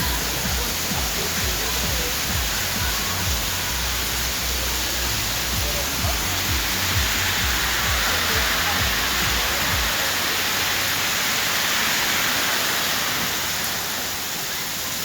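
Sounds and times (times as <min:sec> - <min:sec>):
heavy rain on a street: 0:00.0 - 0:15.0.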